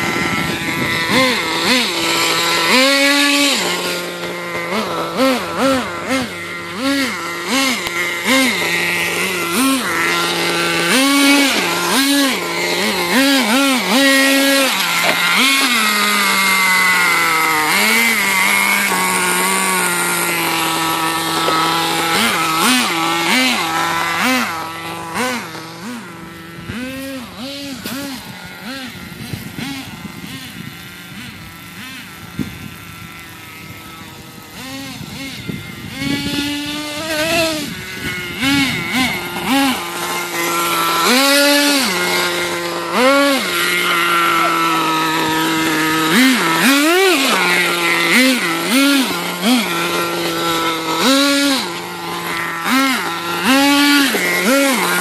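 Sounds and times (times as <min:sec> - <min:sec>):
toy truck motor and gears whining: 0:00.0 - 0:55.0.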